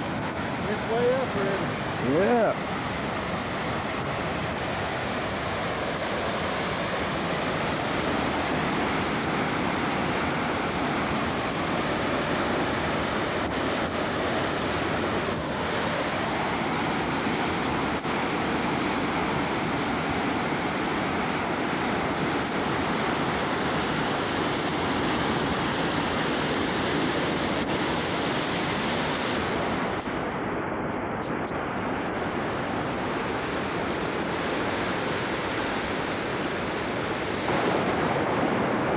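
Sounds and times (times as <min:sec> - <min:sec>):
river in flood rushing: 0:00.0 - 0:38.9.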